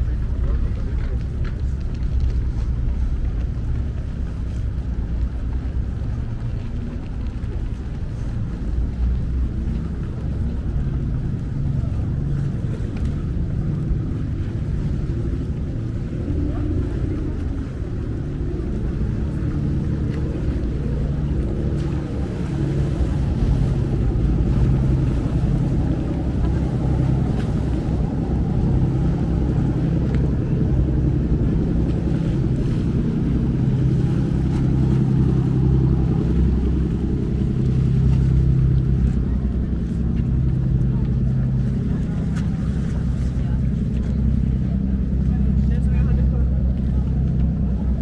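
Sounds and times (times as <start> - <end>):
motorboat engine humming: 0.0 - 48.0.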